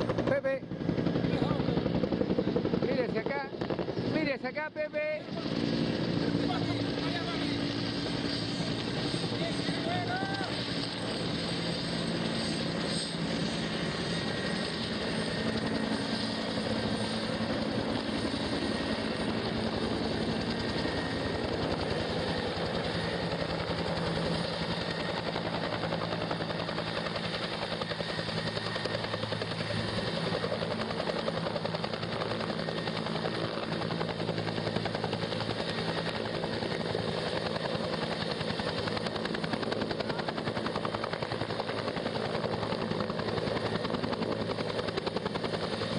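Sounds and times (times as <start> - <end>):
helicopter rotor chop and drone: 0.0 - 45.9.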